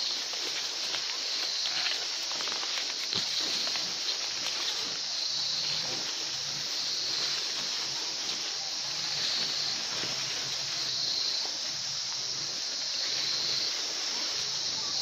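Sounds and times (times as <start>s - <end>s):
plant rustles and ticks: 0.0s - 15.0s
steady high hiss: 0.0s - 15.0s.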